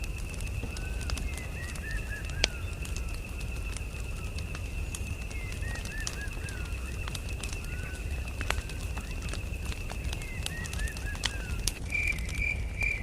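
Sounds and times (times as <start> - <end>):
birds chirping: 0.0 - 13.0
campfire crackling: 0.0 - 13.0.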